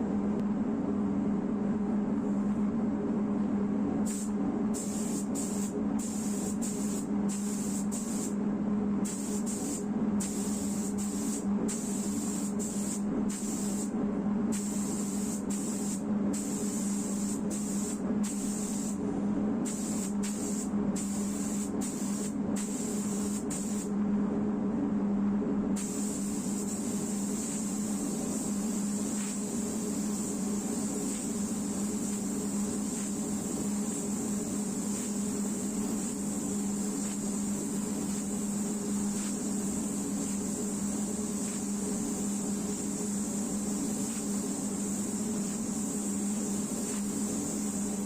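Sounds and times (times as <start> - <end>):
steady low hum: 0.0 - 48.0
spray gun hissing bursts: 4.1 - 8.4, 9.0 - 13.9, 14.5 - 19.0, 19.6 - 23.9, 25.8 - 48.0.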